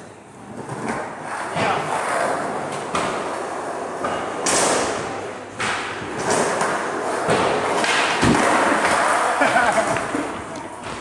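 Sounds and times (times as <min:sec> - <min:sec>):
skateboard wheels rolling on concrete: 0:00.3 - 0:11.0.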